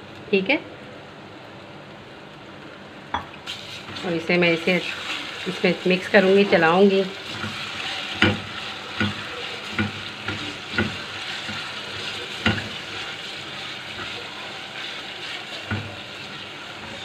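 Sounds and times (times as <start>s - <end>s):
meat sizzling in oil: 2.2s - 17.0s.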